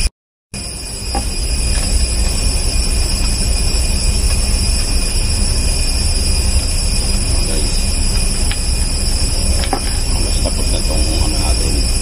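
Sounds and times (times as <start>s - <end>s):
high-pitched machinery whines: 0.0s - 12.0s
low machinery drone: 0.0s - 12.0s.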